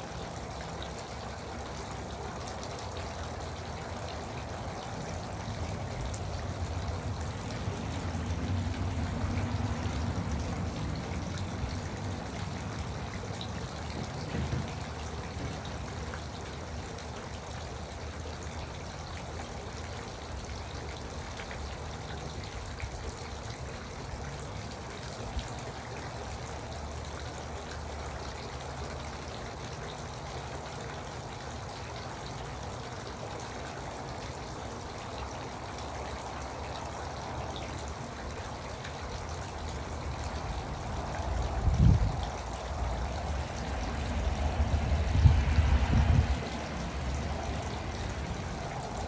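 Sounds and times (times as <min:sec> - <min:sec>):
fountain water trickling and splashing: 0:00.0 - 0:49.0.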